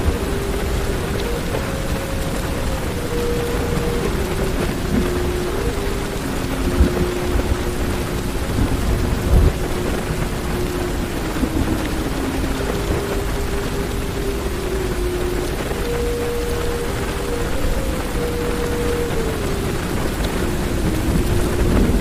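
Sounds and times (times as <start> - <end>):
heavy rain on car roof: 0.0 - 22.0
thunder rumbling: 0.0 - 22.0.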